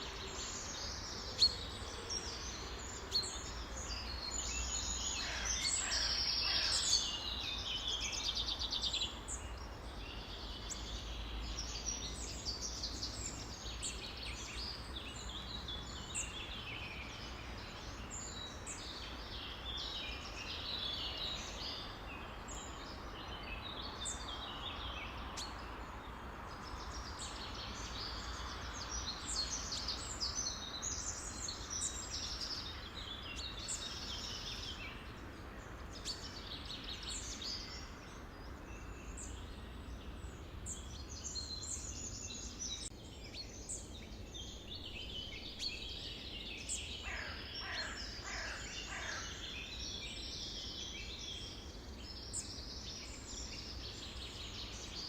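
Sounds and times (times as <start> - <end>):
songbirds chirping in chorus: 0.0 - 55.0.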